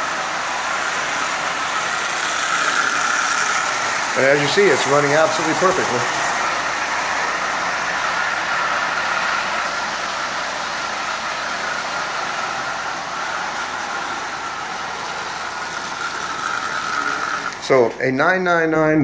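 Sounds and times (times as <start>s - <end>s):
toy train motor whine: 0.0s - 18.0s
wheels rumbling on rails: 0.0s - 18.0s.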